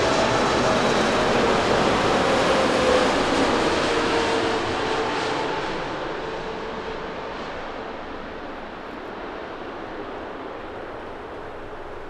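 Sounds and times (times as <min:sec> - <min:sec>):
jet aircraft rumble overhead: 0:00.0 - 0:12.0.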